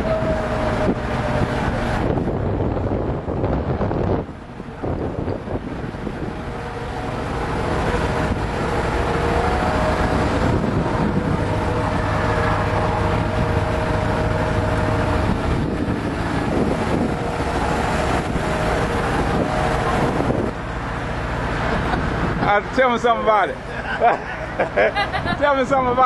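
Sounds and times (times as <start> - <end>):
wind buffeting microphone: 0.0 - 22.8
truck engine idling: 0.0 - 25.7.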